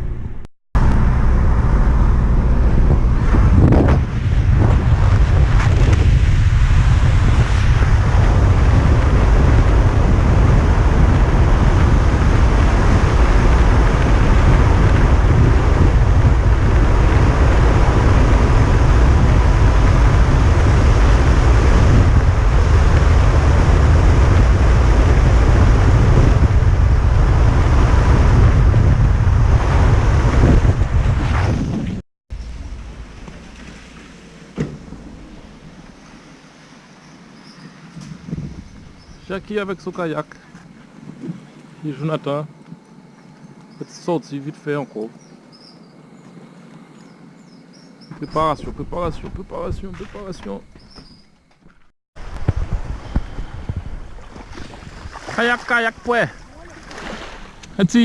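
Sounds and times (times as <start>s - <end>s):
wind buffeting microphone: 0.0s - 36.5s, 37.4s - 40.0s, 47.9s - 51.2s, 52.2s - 58.0s
sea washing: 0.8s - 43.9s, 52.2s - 58.0s.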